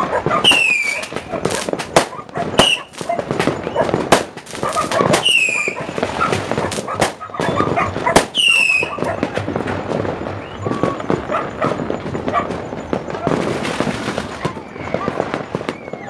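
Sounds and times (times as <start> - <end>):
firecrackers banging: 0.0 - 16.0
high falling whistles: 0.4 - 3.9, 4.6 - 16.0.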